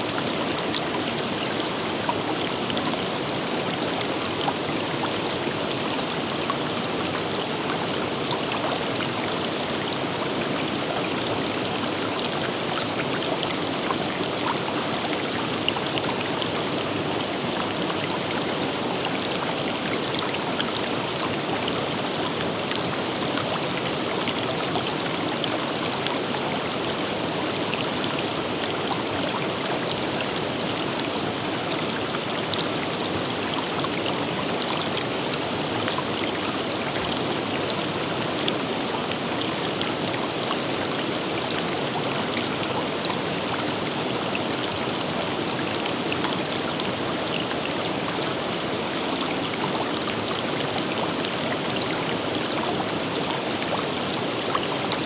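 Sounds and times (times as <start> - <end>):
river running over rocks: 0.0 - 55.0.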